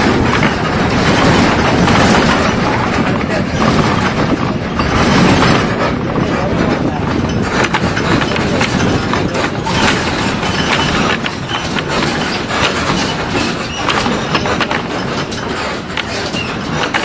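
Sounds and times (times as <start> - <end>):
bus body and windows rattling: 0.0 - 17.0
bus engine and road noise: 0.0 - 17.0.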